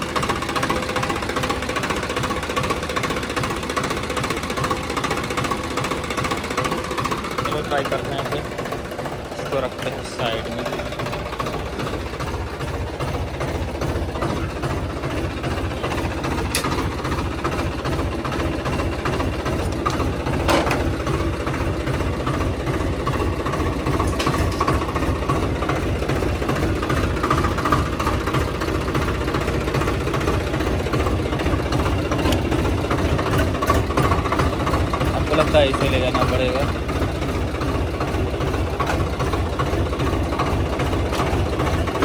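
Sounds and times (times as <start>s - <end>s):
diesel tractor engine clattering: 0.0s - 42.0s.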